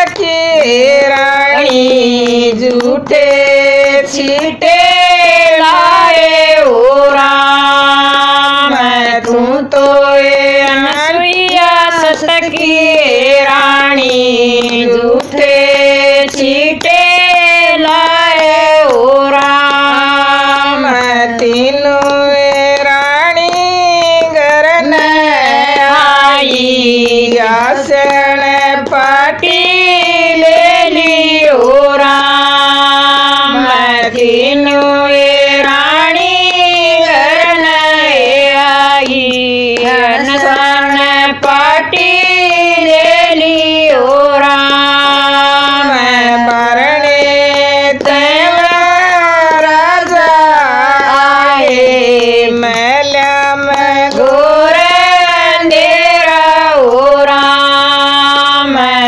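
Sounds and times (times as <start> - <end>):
women singing devotional song: 0.0 - 59.0.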